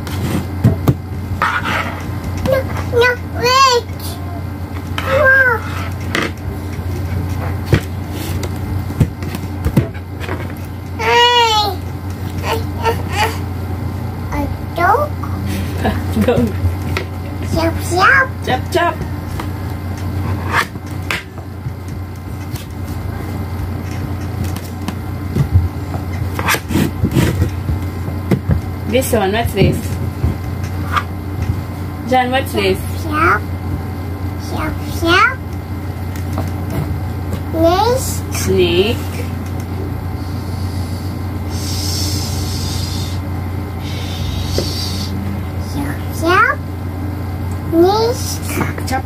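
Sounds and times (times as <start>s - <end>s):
low appliance hum: 0.0s - 49.0s.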